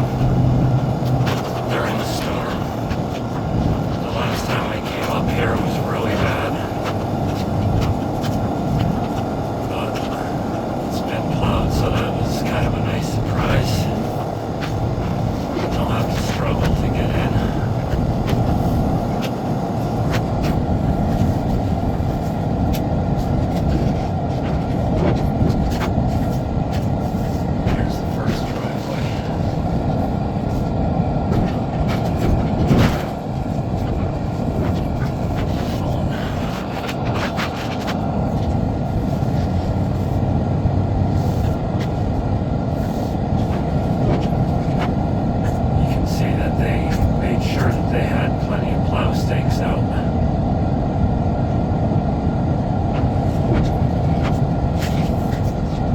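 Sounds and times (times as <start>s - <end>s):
vehicle rumbling: 0.0s - 55.9s.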